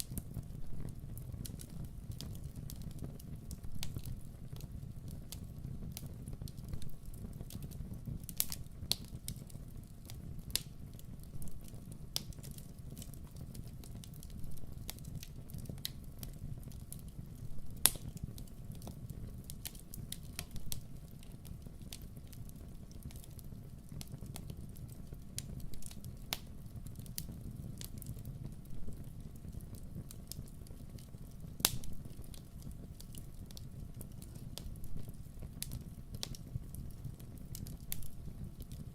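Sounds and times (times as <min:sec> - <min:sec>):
campfire rumbling: 0:00.0 - 0:38.9
fire crackling and popping: 0:00.0 - 0:38.9.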